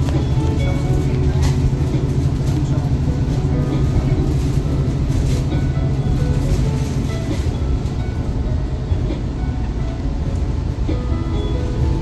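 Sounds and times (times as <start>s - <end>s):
faint music: 0.0s - 12.0s
train carriage rumbling on track: 0.0s - 12.0s.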